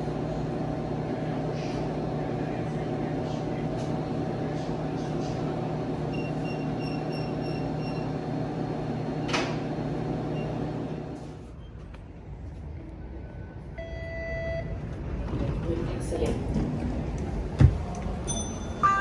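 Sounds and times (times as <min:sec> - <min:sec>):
subway train hum: 0:00.0 - 0:19.0.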